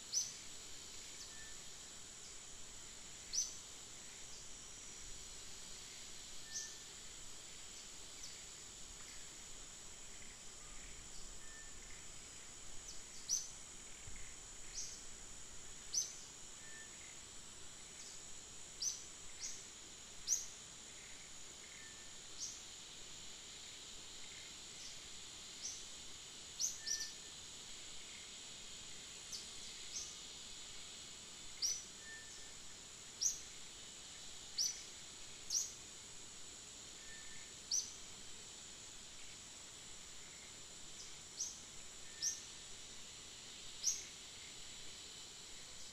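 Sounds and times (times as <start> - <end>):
high-pitched insect drone: 0.0 - 45.9.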